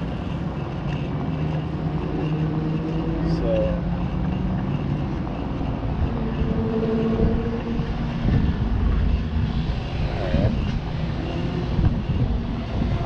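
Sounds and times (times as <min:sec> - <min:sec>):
motorcycle engine droning: 0:00.0 - 0:13.0
wind on microphone: 0:00.0 - 0:13.0.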